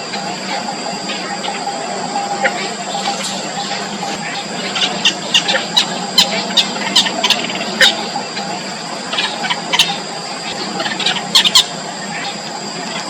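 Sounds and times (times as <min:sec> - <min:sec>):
chicks giving high begging calls: 0:00.0 - 0:13.0
high-pitched background drone: 0:00.0 - 0:13.0.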